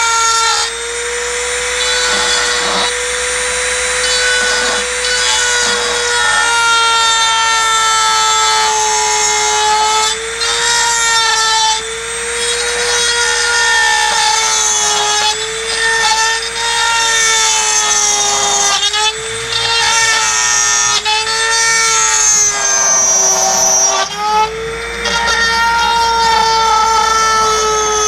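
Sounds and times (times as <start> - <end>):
gritty cutting rasp: 0.0 - 28.0
rotary tool high whine: 0.0 - 28.0.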